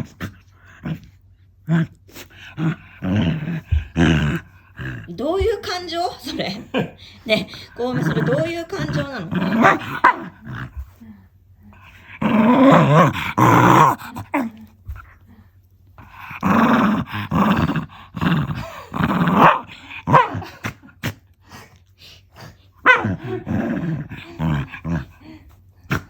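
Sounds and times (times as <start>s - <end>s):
dog growling playfully: 0.0s - 11.0s, 11.7s - 15.4s, 16.0s - 21.8s, 22.4s - 26.0s.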